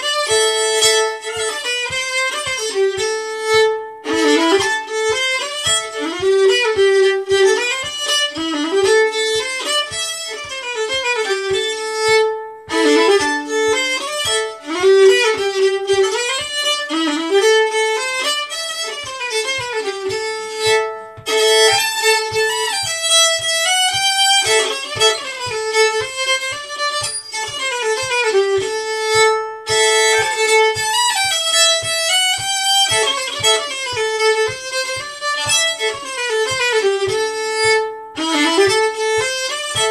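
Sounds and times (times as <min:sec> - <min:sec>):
fiddle playing lively tune: 0:00.0 - 0:39.9
low tapping in time: 0:00.0 - 0:39.9.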